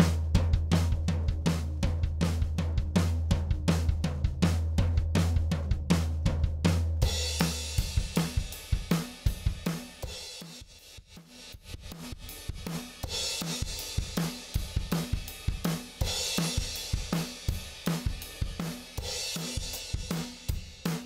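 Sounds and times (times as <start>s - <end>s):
drum kit groove: 0.0s - 21.0s.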